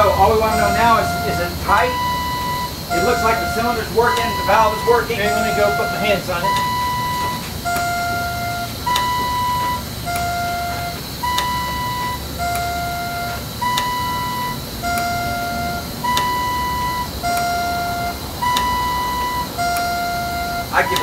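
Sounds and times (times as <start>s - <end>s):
alternating high and low beeps: 0.0s - 21.0s
low steady hum: 0.0s - 21.0s.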